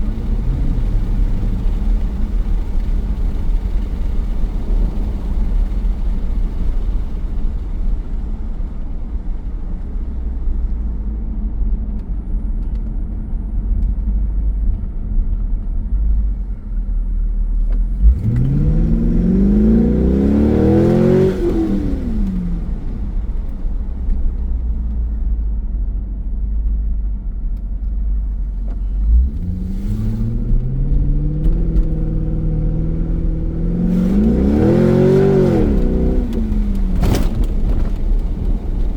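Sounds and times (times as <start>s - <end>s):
car engine rumbling and revving: 0.0s - 38.9s.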